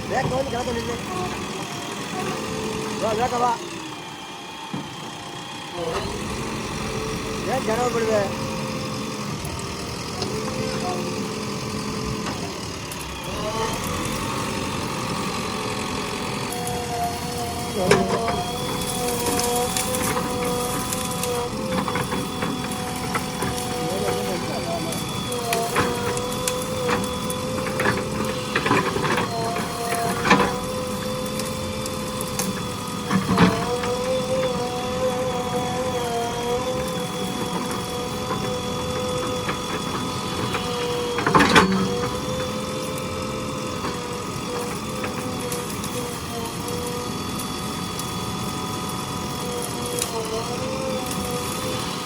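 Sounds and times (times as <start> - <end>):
backhoe engine and hydraulics whine: 0.0 - 52.0.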